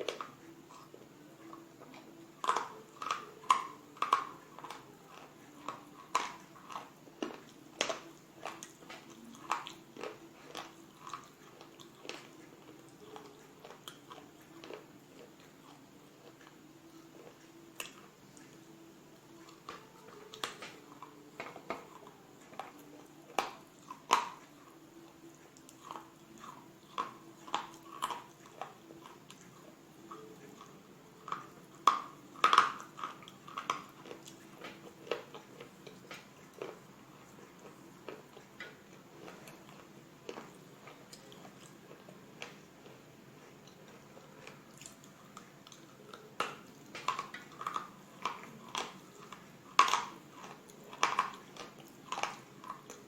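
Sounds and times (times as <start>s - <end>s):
brittle crunches of chewing: 0.0s - 18.6s, 19.3s - 53.0s.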